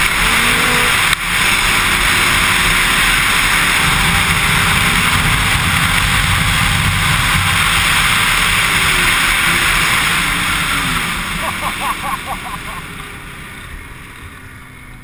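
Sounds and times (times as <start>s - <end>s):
wind rush on microphone: 0.0s - 12.6s
snowmobile engine and track: 0.0s - 15.0s.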